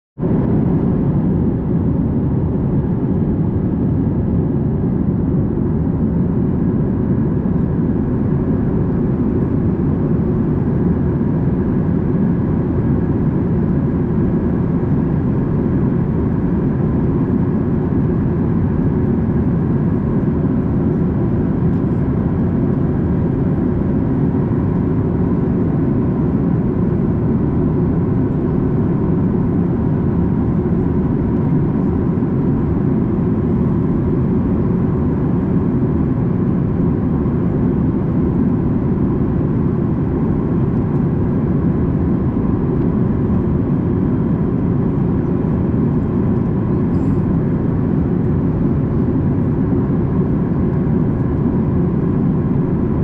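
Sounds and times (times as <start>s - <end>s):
airplane cabin roar: 0.2s - 53.0s.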